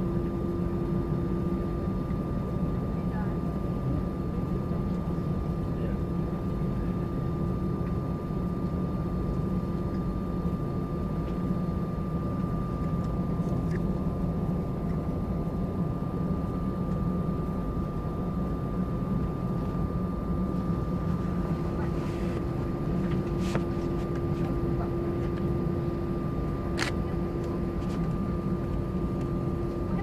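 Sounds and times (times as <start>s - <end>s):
airplane cabin engine rush: 0.0s - 30.0s.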